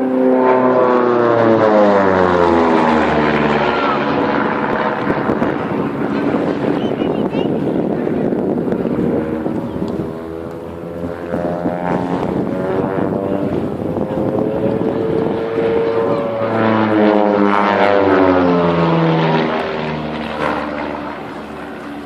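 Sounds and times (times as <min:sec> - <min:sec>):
propeller aircraft flying past: 0:00.0 - 0:22.0.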